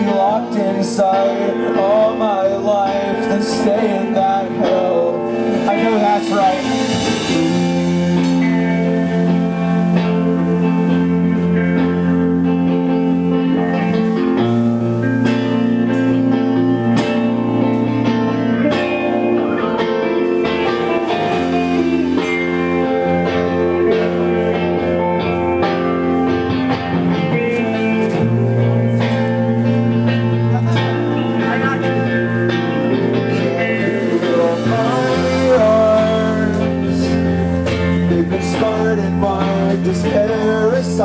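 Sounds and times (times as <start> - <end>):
live band guitar chords: 0.0 - 41.0.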